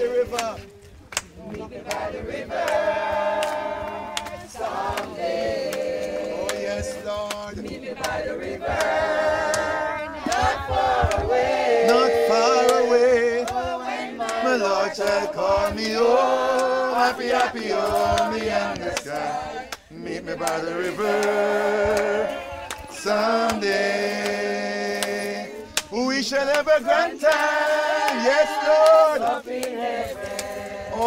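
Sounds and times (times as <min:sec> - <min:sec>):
group singing a hymn: 0:00.0 - 0:31.0.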